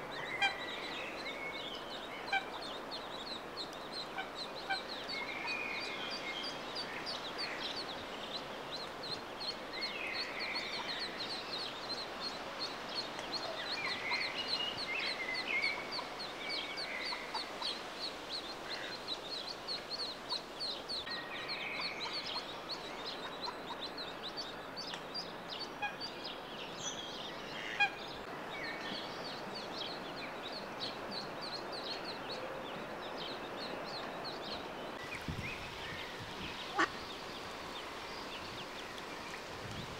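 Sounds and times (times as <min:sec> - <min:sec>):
ducklings peeping: 0:00.2 - 0:26.4, 0:28.9 - 0:37.2.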